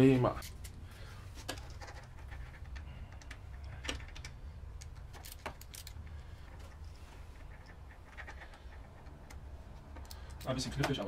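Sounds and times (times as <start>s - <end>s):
allen key clicking and scraping: 1.4s - 6.8s, 7.4s - 11.0s.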